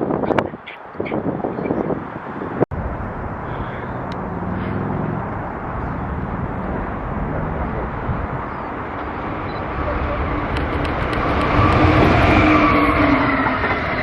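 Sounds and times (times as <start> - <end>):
train rumbling on tracks: 2.8 - 14.0.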